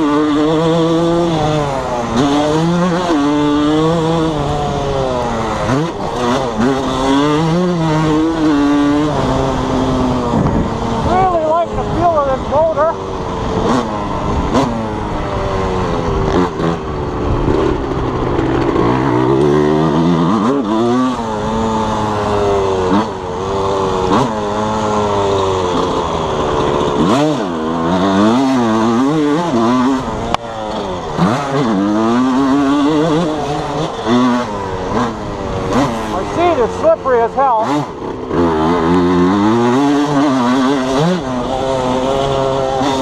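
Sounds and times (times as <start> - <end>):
two-stroke motorbike revving: 0.0 - 43.0.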